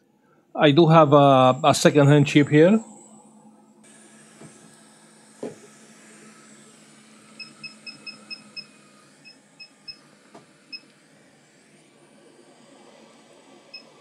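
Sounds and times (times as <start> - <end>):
hot-air blower hissing: 0.7 - 14.0.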